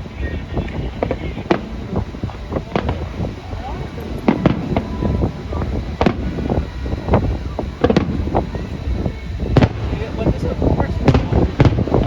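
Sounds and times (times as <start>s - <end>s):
firecrackers banging: 0.0s - 12.0s
low rumble: 0.0s - 12.0s
wind on microphone: 0.0s - 12.0s.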